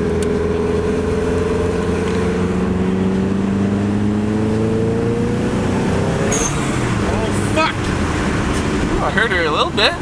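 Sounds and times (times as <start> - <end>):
car engine accelerating inside cabin: 0.0 - 10.0.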